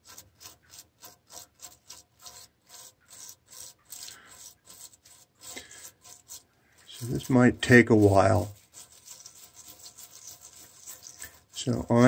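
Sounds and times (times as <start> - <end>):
wire brush scrubbing metal: 0.0 - 12.0.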